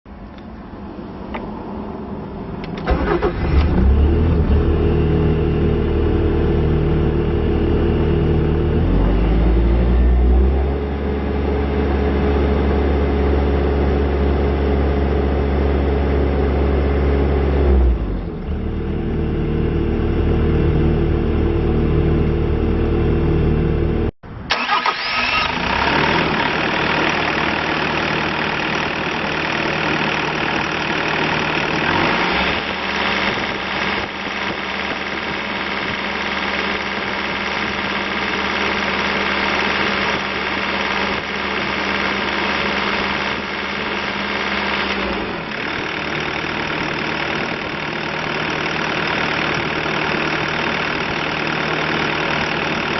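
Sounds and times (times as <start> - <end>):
diesel engine running: 2.6 - 52.9.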